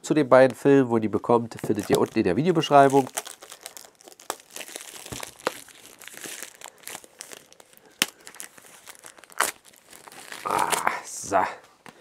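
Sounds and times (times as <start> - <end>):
plastic shrink-wrap crinkling: 1.4 - 11.2.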